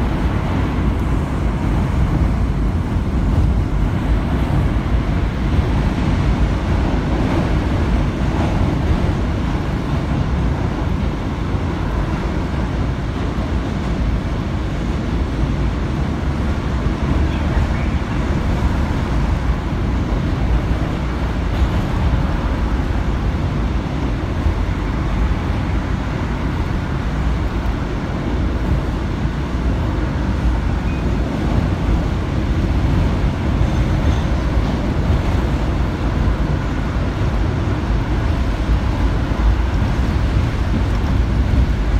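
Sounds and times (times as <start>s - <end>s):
subway train running on track: 0.0s - 41.9s.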